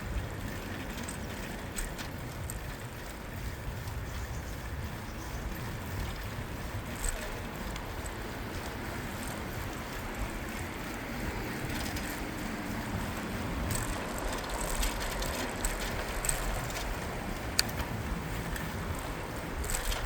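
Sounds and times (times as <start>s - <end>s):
bicycle tyres rumbling: 0.0s - 20.0s
light clicks and ticks: 0.1s - 20.0s.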